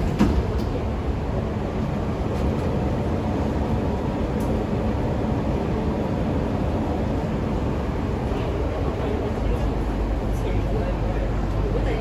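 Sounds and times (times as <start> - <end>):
train car low rumble: 0.0 - 12.0.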